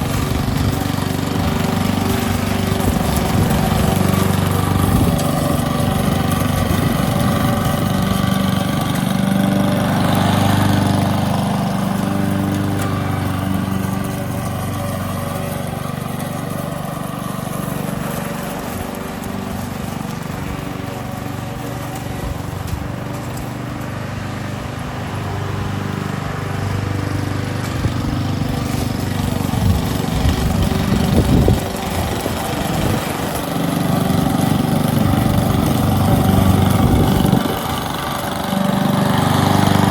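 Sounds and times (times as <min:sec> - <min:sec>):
lawn mower running: 0:00.0 - 0:39.9.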